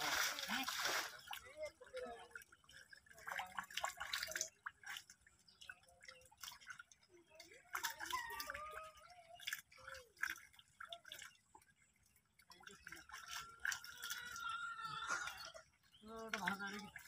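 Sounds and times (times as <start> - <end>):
splashing and squelching in mud: 0.0 - 17.0.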